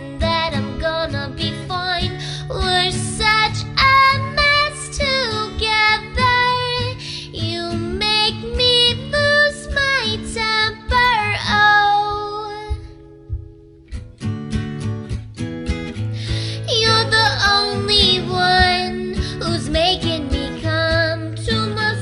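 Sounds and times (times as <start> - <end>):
woman singing pop melody: 0.0 - 13.8, 16.1 - 22.0
acoustic guitar: 0.0 - 22.0.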